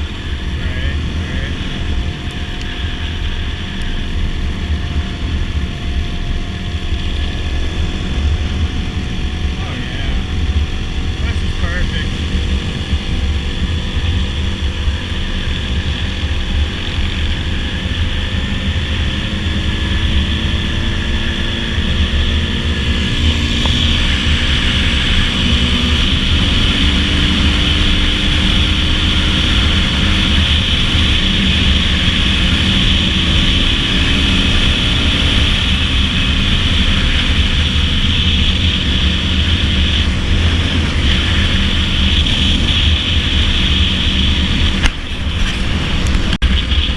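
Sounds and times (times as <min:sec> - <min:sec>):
dirt bike engine running: 0:00.0 - 0:46.9
wind rushing over microphone: 0:00.0 - 0:46.9.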